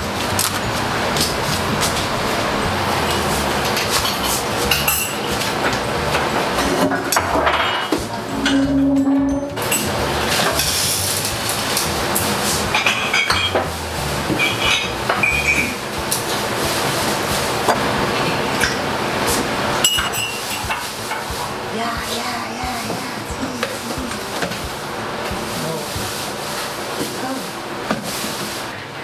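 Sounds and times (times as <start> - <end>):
dishes and utensils clinking: 0.2 - 28.6.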